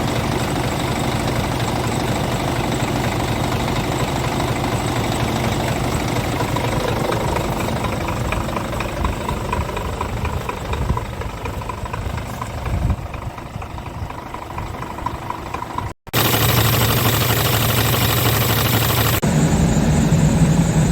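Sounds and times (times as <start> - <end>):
truck diesel engine idling: 0.0 - 20.9.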